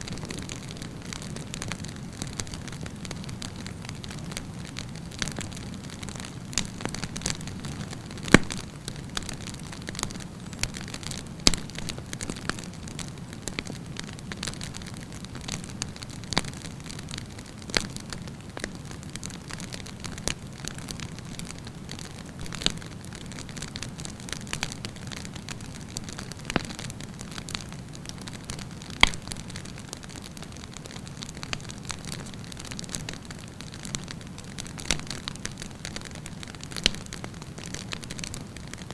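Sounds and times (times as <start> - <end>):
campfire burning: 0.0 - 38.9
fire crackling and popping: 0.0 - 38.9.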